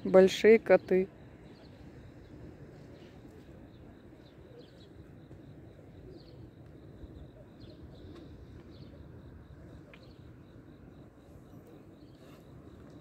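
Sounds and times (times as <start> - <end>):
crickets chirping: 0.0 - 13.0
low rumble of surf: 0.0 - 13.0.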